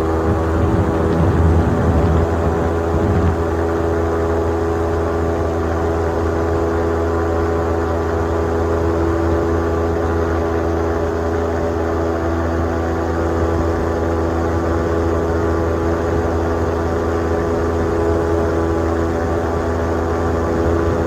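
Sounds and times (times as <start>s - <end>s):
engine droning steadily: 0.0s - 21.0s.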